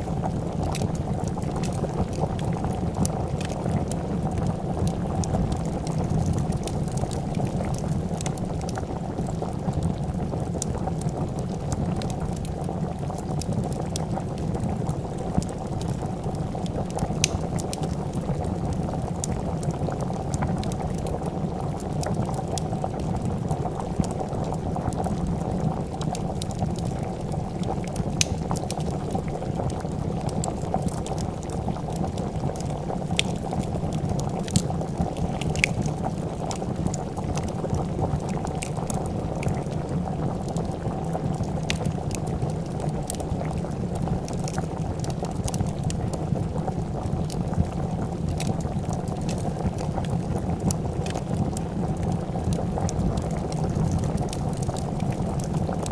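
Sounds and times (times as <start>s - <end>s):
soup bubbling at a boil: 0.0s - 55.9s
wood fire popping and crackling: 0.0s - 55.9s.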